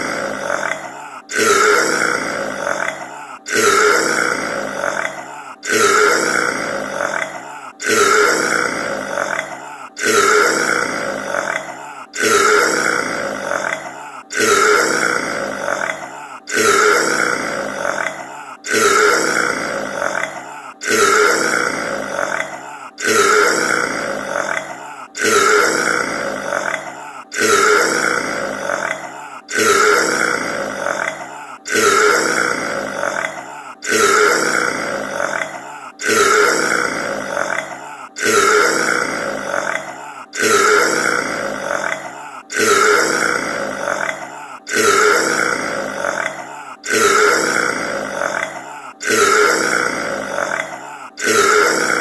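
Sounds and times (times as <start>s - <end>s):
loud burp: 0.0s - 52.0s.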